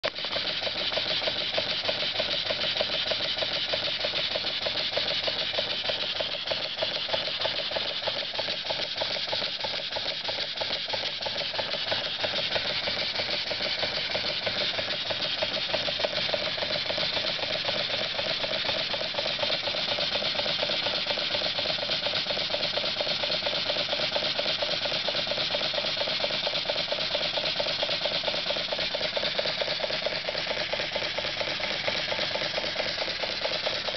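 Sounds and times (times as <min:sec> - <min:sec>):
valve gear clatter: 0:00.0 - 0:33.9
steam engine exhaust beats: 0:00.1 - 0:33.9.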